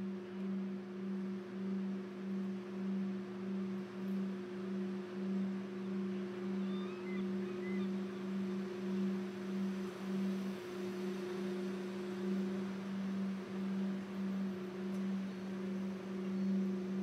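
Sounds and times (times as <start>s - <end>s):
low wavering humming drone: 0.0s - 17.0s
soft hiss: 0.0s - 17.0s
steady higher tone: 0.6s - 17.0s.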